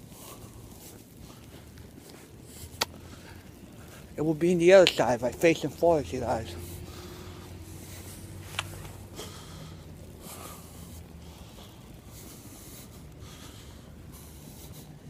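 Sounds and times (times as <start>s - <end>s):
person breathing heavily: 0.0s - 4.2s, 5.9s - 15.0s.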